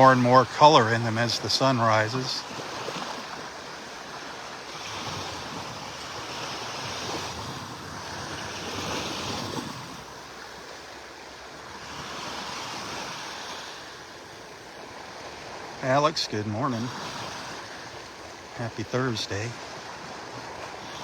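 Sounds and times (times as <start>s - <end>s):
surf breaking on beach: 0.0s - 10.7s, 11.8s - 21.0s.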